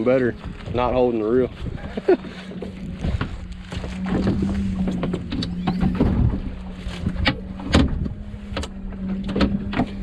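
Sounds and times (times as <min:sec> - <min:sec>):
trolling motor humming: 0:00.0 - 0:10.0.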